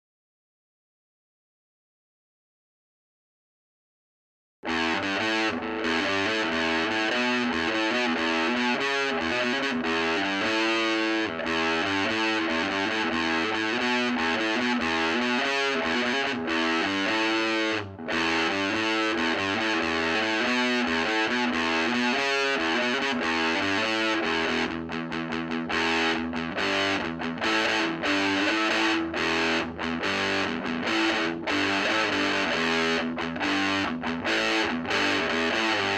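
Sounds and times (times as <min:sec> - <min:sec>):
distorted electric guitar riff: 0:04.6 - 0:35.9.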